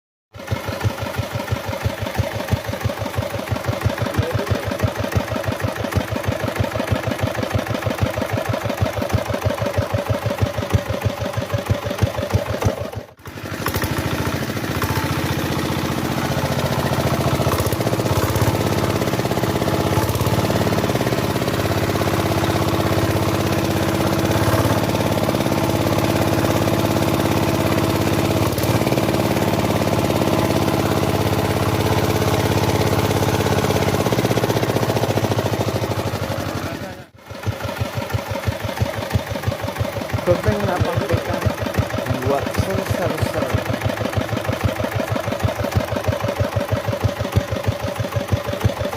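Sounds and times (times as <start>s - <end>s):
diesel engine chugging: 0.4s - 48.9s.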